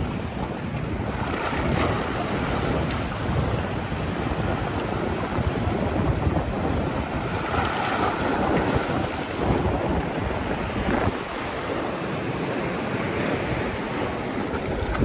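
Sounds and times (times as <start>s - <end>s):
sea surf on shore: 0.0s - 15.0s
wind buffeting microphone: 0.0s - 15.0s.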